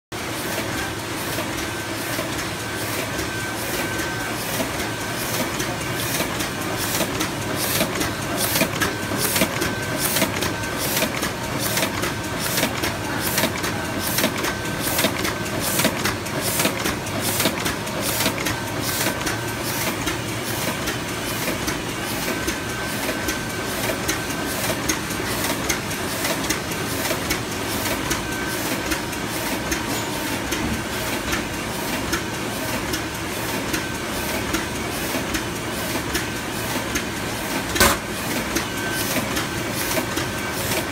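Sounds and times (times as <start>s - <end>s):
printing press clattering: 0.2s - 40.9s.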